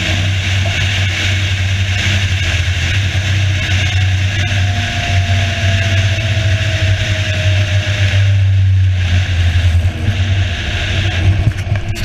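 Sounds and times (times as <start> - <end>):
car engine running: 0.0 - 12.0
road and wind noise: 0.0 - 12.0.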